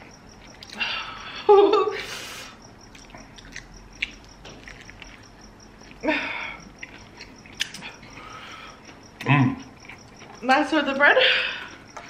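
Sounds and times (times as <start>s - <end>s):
wet chewing: 0.0s - 1.0s, 2.6s - 12.0s.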